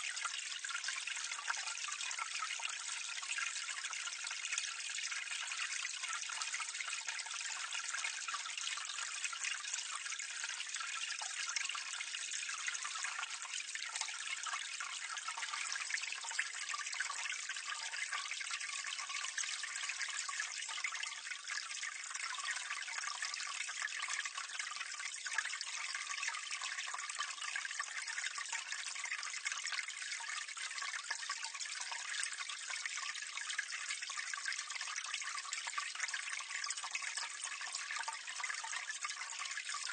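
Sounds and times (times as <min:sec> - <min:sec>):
water pouring from drainpipe: 0:00.0 - 0:39.9.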